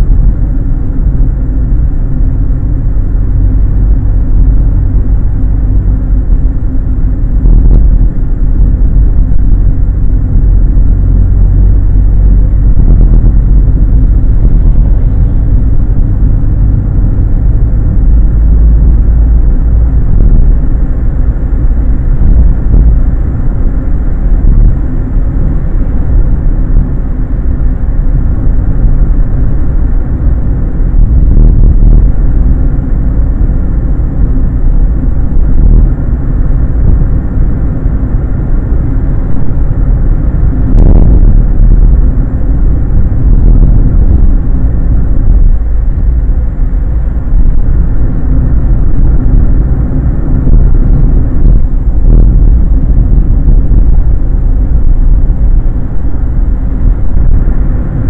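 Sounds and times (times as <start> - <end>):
car engine and road noise rumble: 0.0 - 58.0.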